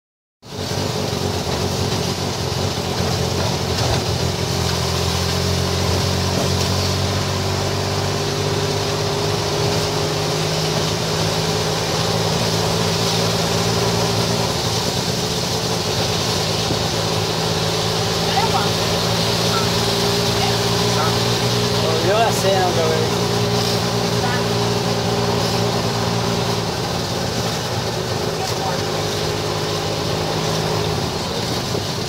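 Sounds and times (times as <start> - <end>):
road and wind noise: 0.4 - 32.0
vehicle engine running: 0.4 - 32.0.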